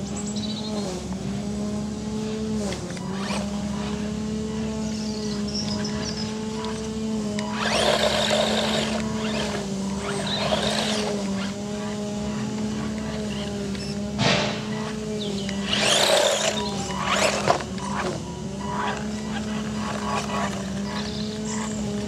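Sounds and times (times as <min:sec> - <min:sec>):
rc truck motor on dirt: 0:00.0 - 0:22.0
steady hum: 0:00.0 - 0:22.0.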